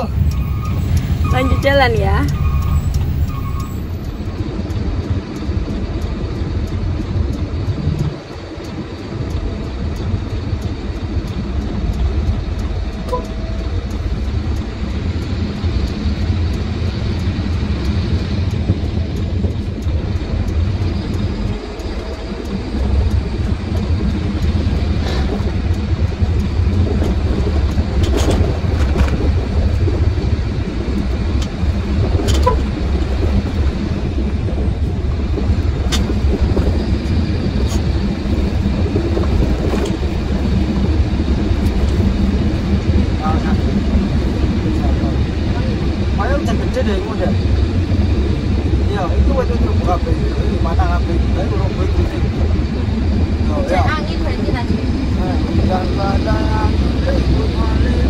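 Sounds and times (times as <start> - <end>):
road noise: 0.0 - 58.0
truck engine rumble: 0.0 - 58.0.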